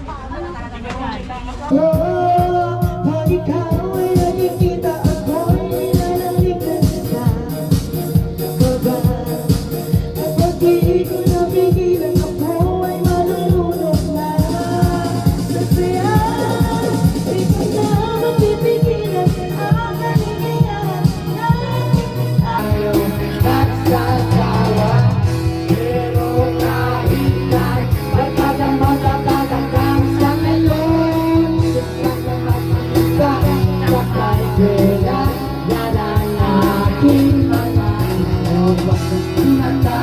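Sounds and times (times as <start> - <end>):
upbeat rock song with singing: 1.6 - 40.0.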